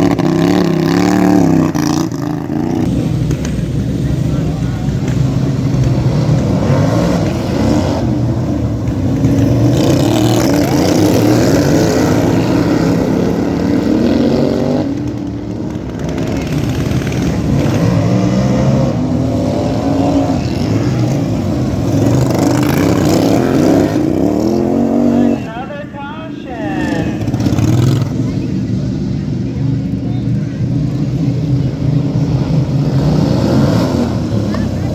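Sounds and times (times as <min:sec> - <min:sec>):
lawn tractor engines racing: 0:00.0 - 0:34.9.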